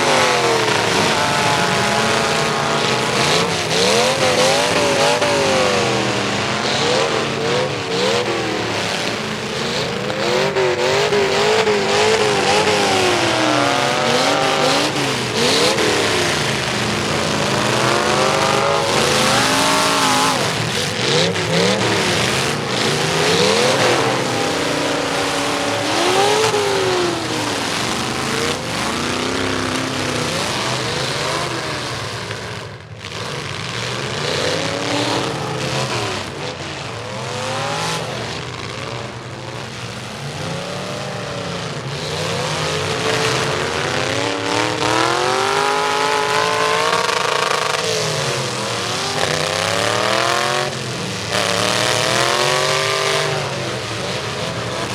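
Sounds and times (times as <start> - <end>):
truck engines revving: 0.0 - 54.9.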